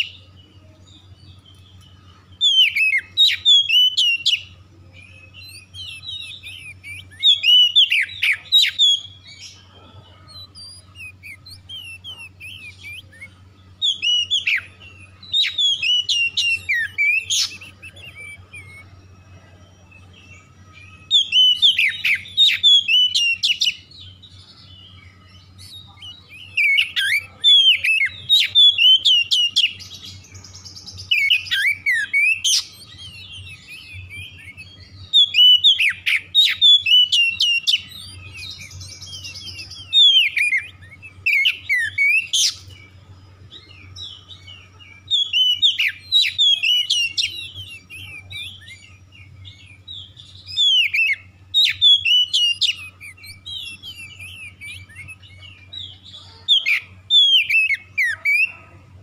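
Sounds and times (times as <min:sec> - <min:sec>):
bird singing whistles and chirps: 0:00.0 - 0:59.0
buzzy bird notes: 0:00.0 - 0:59.0.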